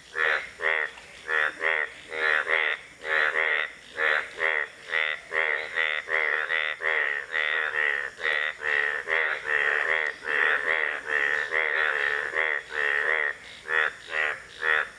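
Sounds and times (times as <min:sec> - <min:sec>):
bullfrog croaking: 0:00.0 - 0:14.9.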